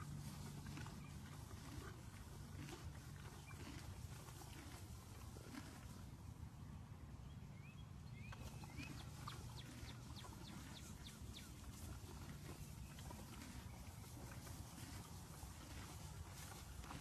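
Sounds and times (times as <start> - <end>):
small birds chirping: 0.4 - 6.3, 7.2 - 17.0.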